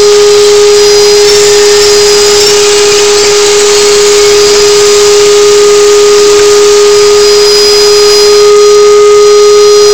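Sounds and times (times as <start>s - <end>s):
router motor whining: 0.0s - 8.7s.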